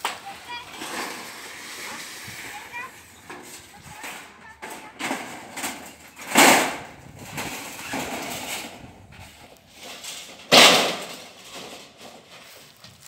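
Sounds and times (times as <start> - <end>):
sheet-metal roofing crash: 0.0 - 12.6.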